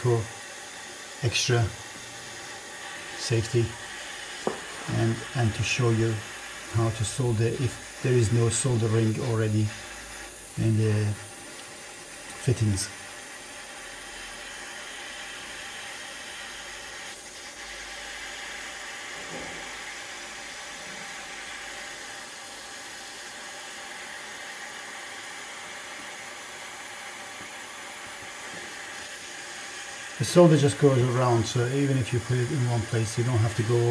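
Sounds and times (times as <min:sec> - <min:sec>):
pen torch flame hissing: 0:00.0 - 0:33.9.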